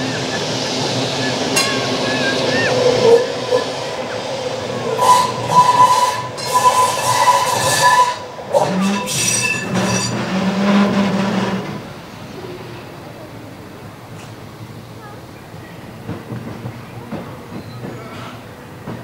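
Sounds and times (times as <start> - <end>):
tram wheels squealing: 0.0 - 13.1, 14.1 - 19.0.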